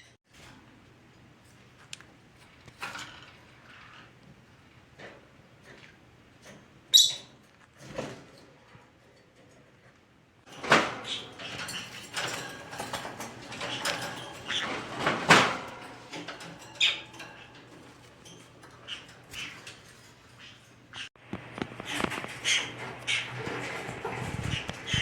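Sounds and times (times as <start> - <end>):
parrots rustling and clicking: 1.5 - 25.0.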